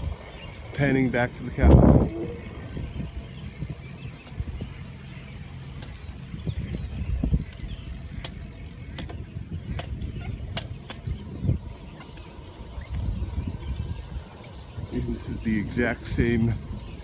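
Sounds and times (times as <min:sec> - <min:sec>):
bicycle rolling over pavement: 0:00.0 - 0:17.0.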